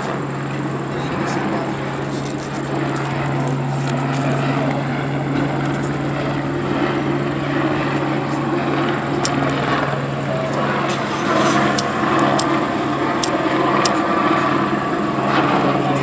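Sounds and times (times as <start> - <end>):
helicopter rotor drone: 0.0 - 16.0.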